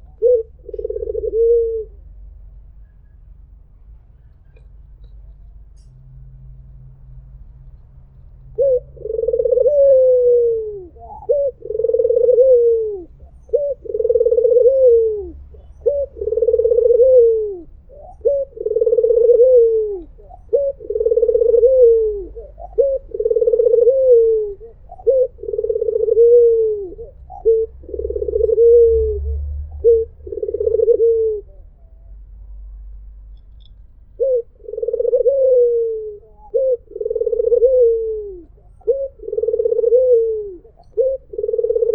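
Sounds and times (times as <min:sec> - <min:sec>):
dove cooing: 0:00.0 - 0:02.4, 0:08.5 - 0:32.3, 0:34.1 - 0:41.9.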